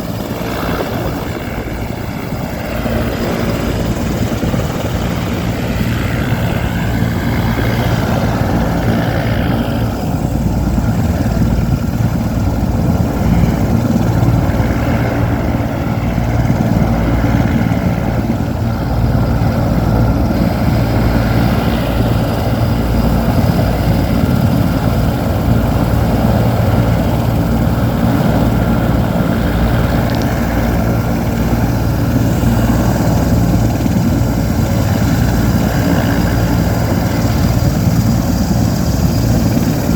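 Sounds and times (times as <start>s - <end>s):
helicopter rotor and engine rumble: 0.0s - 39.9s.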